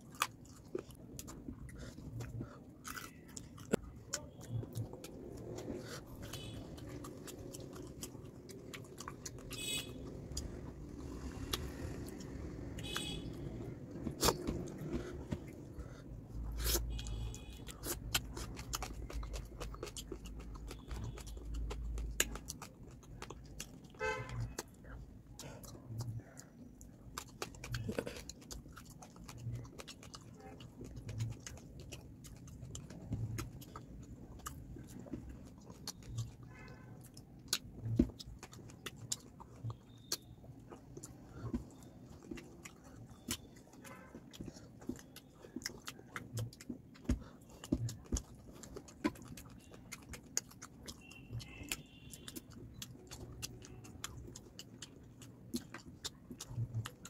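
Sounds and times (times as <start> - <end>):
chewing and mouth sounds: 0.0 - 57.0.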